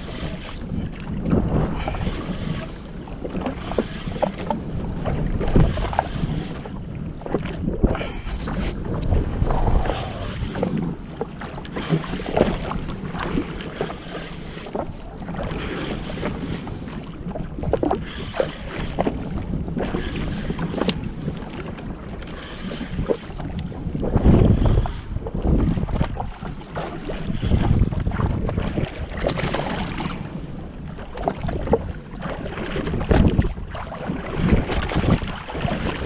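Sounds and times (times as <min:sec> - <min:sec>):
water splashing against jet ski: 0:00.0 - 0:36.0
wind buffeting microphone: 0:00.0 - 0:36.0.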